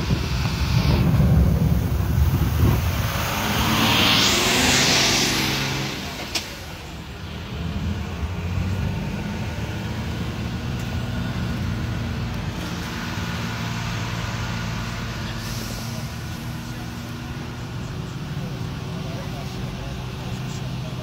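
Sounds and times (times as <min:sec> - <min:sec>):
bus engine hum: 0:00.0 - 0:21.0.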